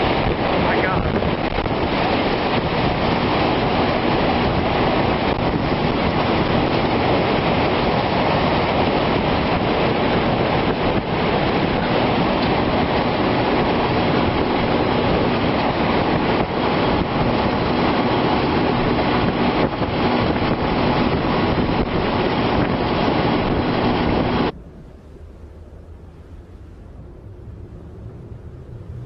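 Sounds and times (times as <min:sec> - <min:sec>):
roar of storm wind: 0:00.0 - 0:29.0.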